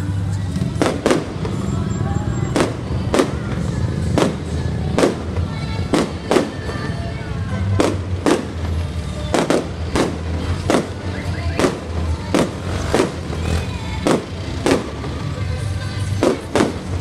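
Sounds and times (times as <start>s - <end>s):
fireworks bursting: 0.7s - 6.9s, 7.6s - 17.0s.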